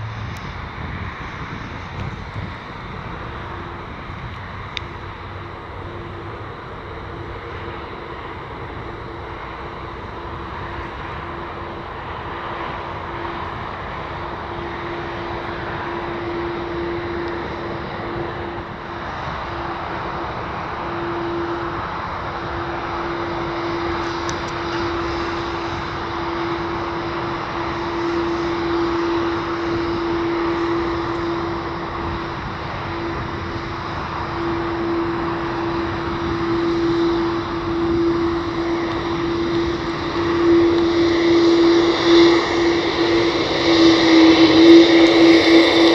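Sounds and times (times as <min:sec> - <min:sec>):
jet engines droning: 0:00.0 - 0:45.9.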